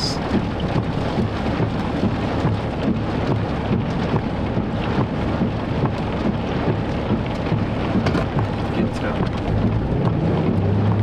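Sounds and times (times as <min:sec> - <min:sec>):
heavy rain on vehicle roof: 0:00.0 - 0:11.0
low rumble: 0:00.0 - 0:11.0.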